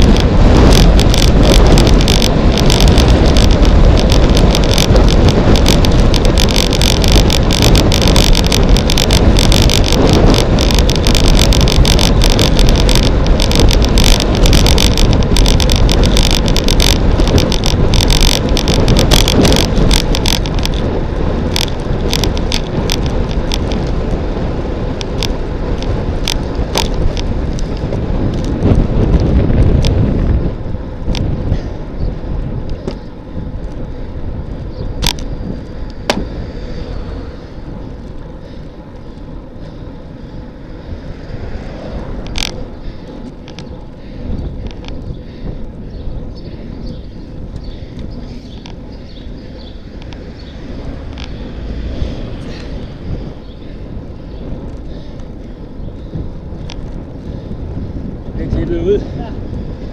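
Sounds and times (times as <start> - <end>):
bike clicks and rattles: 0.0 - 59.9
wind rush over microphone: 0.0 - 59.9.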